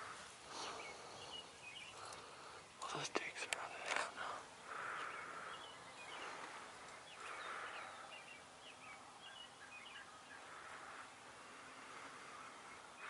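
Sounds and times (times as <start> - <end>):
small songbirds chirping: 0.0 - 13.0
soft outdoor hush: 0.0 - 13.0.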